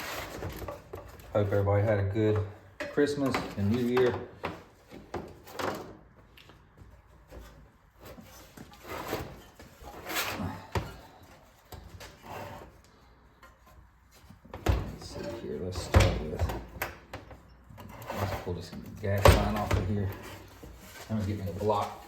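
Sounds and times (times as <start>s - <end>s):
tools handled on a workbench: 2.3s - 22.0s.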